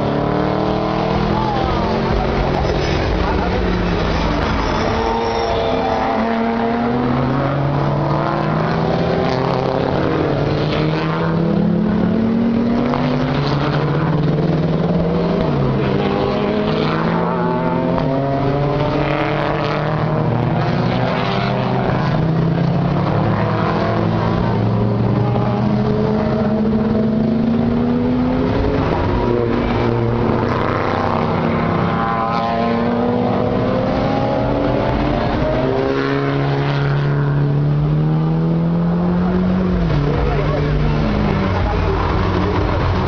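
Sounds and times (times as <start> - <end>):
race car engines revving: 0.0 - 43.0.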